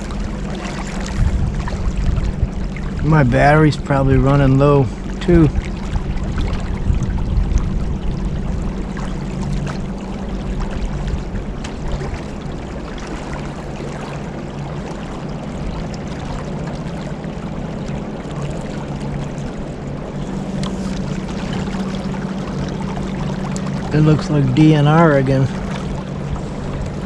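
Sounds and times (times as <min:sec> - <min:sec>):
motorboat engine humming: 0:00.0 - 0:27.0
water rushing along hull: 0:00.0 - 0:27.0.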